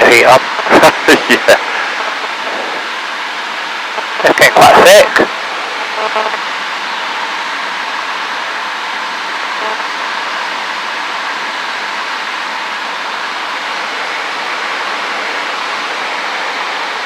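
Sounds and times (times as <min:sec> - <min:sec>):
airplane engine drone from cockpit: 0:00.0 - 0:17.0.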